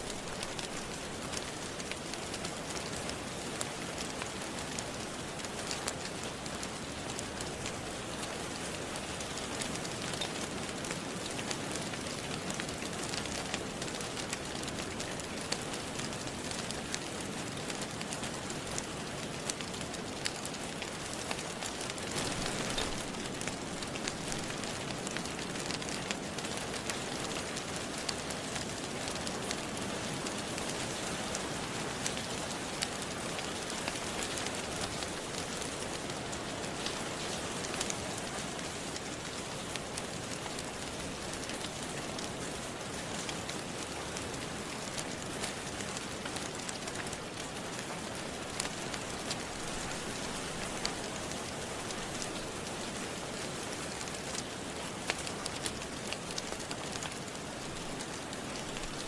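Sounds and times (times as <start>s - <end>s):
steady rain falling: 0.0s - 59.0s
wood fire crackling and popping: 0.0s - 59.0s.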